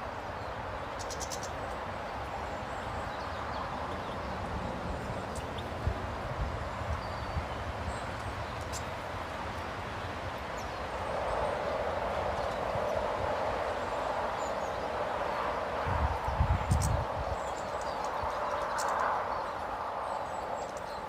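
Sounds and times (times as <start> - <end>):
rushing outdoor background noise: 0.0 - 21.0.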